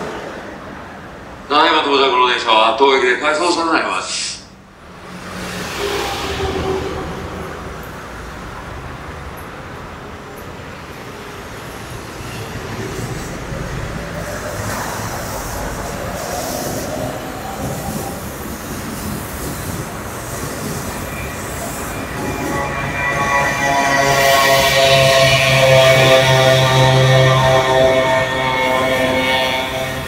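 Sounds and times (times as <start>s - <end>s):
electric train moving: 3.3s - 30.0s
wheels hissing on rails: 4.1s - 30.0s.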